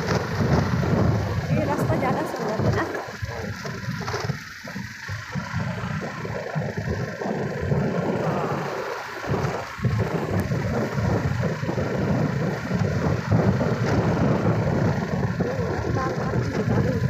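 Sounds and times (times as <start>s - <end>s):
scooter engine running: 0.0s - 17.0s
wind buffeting microphone: 0.0s - 17.0s.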